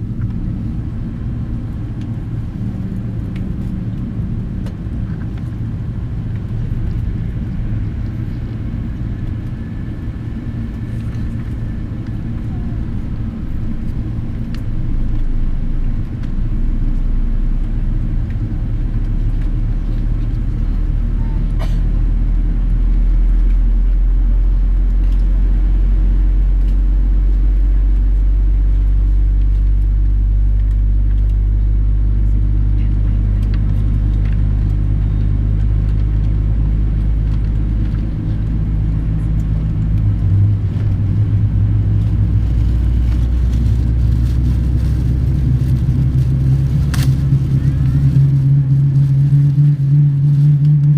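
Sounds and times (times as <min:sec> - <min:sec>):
jet engines low rumble: 0:00.0 - 0:50.9
low hum: 0:00.0 - 0:50.9.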